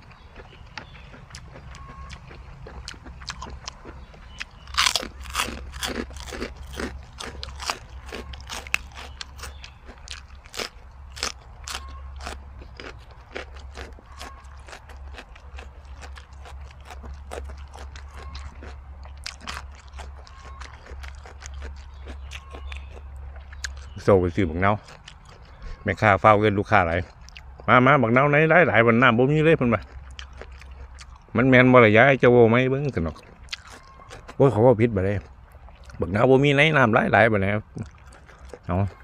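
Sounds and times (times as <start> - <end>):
wet crunchy chewing: 0.0 - 39.0.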